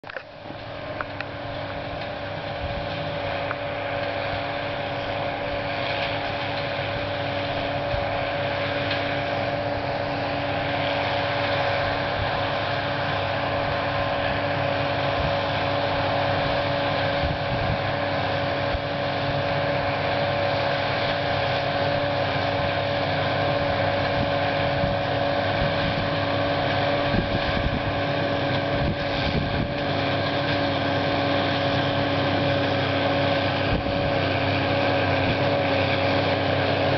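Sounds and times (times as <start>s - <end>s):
constant machine whine: 0.0s - 36.9s
tractor and baler drone: 0.0s - 36.9s.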